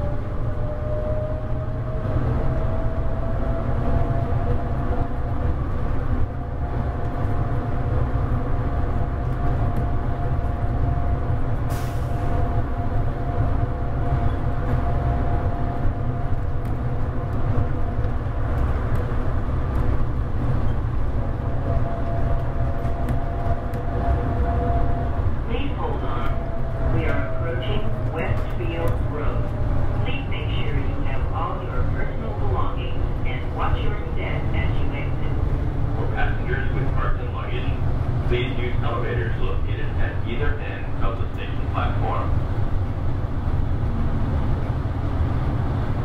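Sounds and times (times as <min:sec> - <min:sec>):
train car low rumble: 0:00.0 - 0:46.0.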